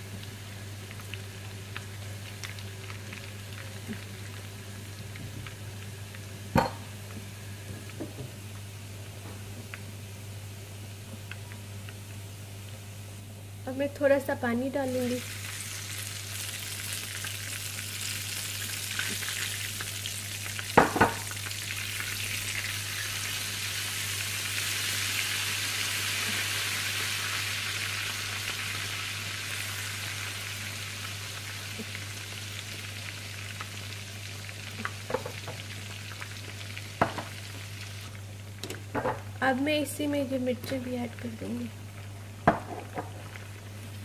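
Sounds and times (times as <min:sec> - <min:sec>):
hot oil sizzling in a frying pan: 0:00.0 - 0:44.0.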